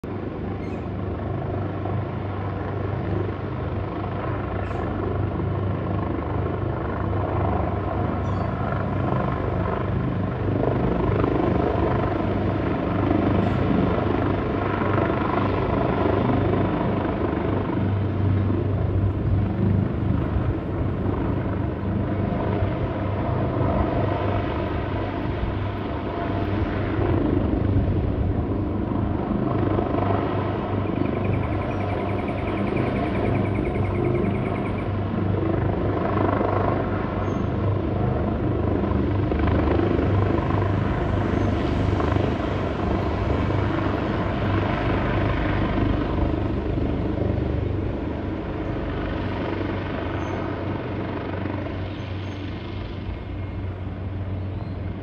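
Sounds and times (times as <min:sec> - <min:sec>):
helicopter rotor drone: 0:00.0 - 0:55.0.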